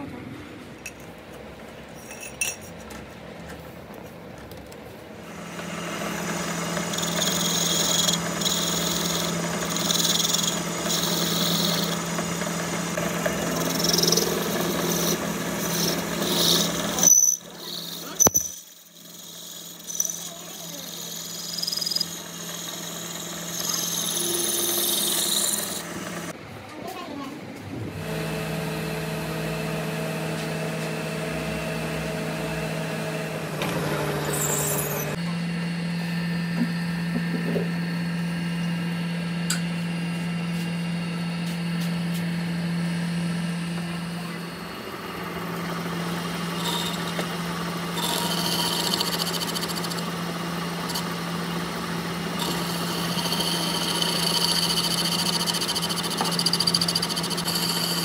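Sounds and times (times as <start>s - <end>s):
machine motor running: 5.2s - 26.4s, 27.7s - 58.0s.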